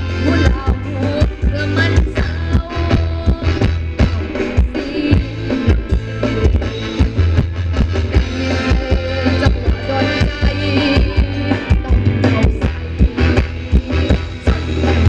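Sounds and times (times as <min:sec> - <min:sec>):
live band dance music: 0:00.0 - 0:15.0.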